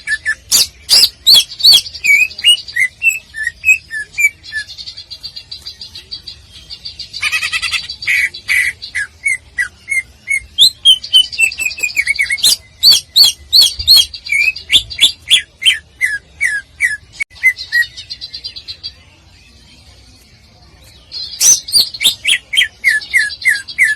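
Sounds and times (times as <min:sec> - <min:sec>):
bird singing trills and whistles: 0:00.0 - 0:18.8, 0:21.0 - 0:23.9.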